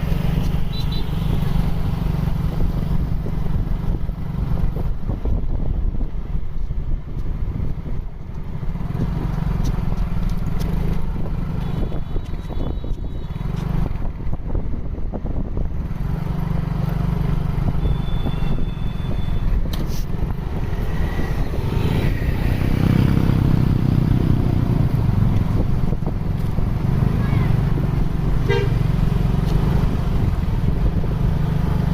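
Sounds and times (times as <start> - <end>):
bus engine low rumble: 0.0 - 31.9.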